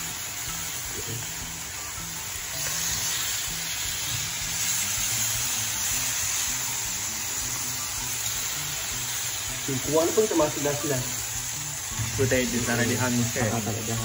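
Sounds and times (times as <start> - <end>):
meat sizzling on griddle: 0.0 - 14.0.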